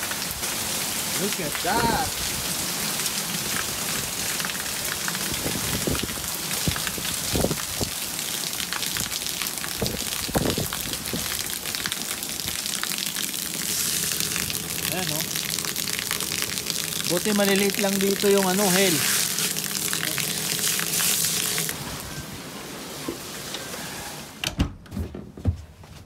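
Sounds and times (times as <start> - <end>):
hail and heavy rain pelting: 0.0 - 21.8.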